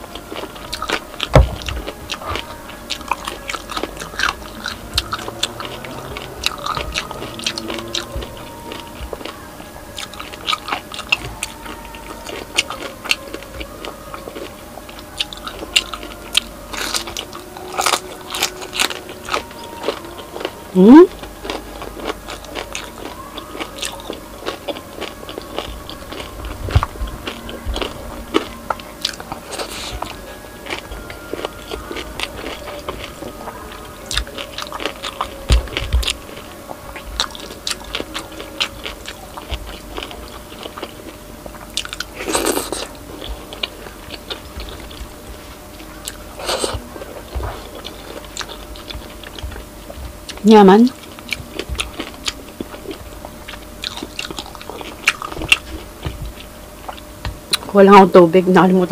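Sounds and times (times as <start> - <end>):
crunchy chewing: 0.0 - 57.7.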